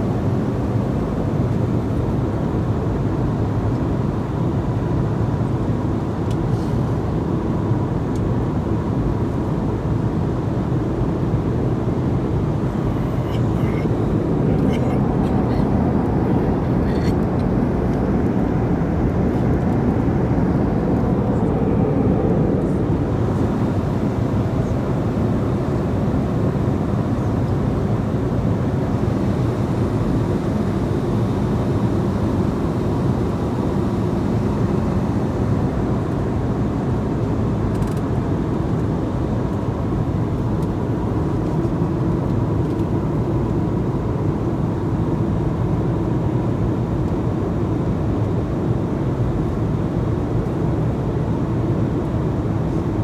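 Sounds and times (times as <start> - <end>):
jet engine and airflow rumble: 0.0 - 53.0.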